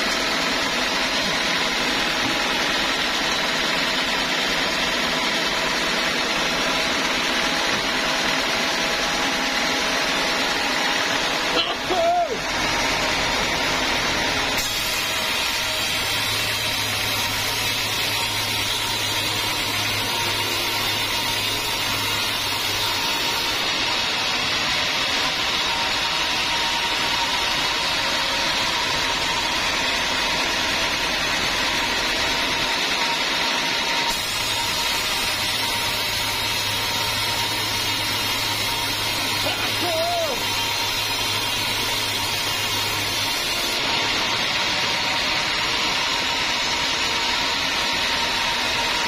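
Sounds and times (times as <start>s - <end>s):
band saw cutting log: 0.0s - 49.0s
machine running hum: 0.0s - 49.0s.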